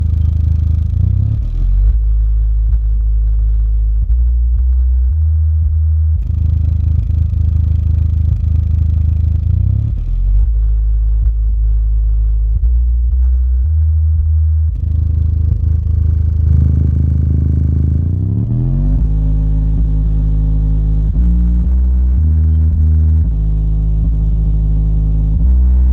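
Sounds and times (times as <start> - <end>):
subwoofer playing deep bass notes: 0.0 - 25.9.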